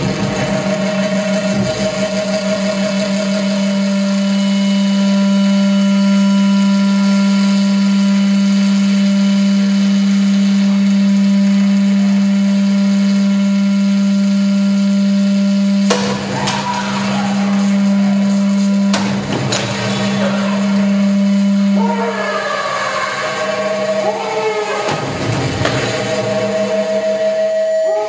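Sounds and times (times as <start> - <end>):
harsh noise drone: 0.0 - 28.0.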